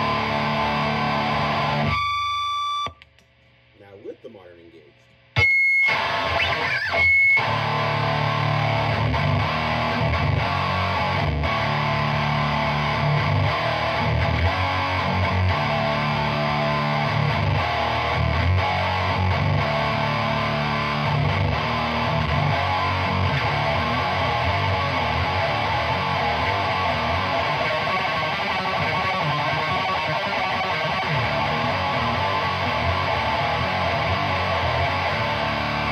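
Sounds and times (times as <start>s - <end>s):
distorted electric guitar riffing: 0.0s - 2.9s, 5.4s - 35.9s
guitar feedback squeal: 0.0s - 2.9s, 5.4s - 35.9s.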